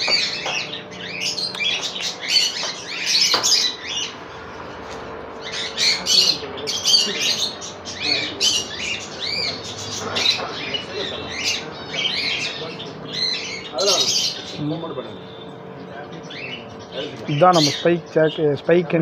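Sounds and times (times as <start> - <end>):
parrots chirping and squawking: 0.0 - 19.0.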